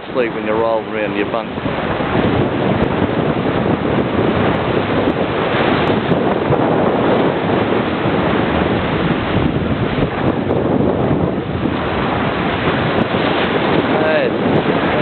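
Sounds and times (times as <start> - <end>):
waves rushing: 0.0 - 15.0
wind buffeting microphone: 0.0 - 15.0.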